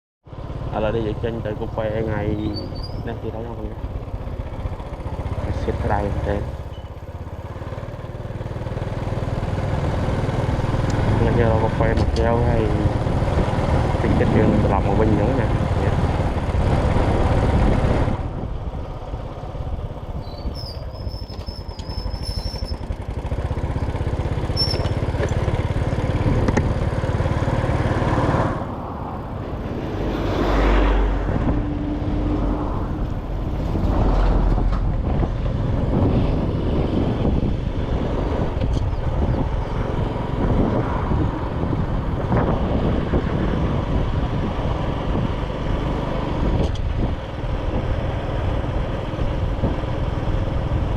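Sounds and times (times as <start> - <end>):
road noise: 0.2 - 50.9
motorcycle engine running: 0.3 - 30.2, 31.1 - 50.9.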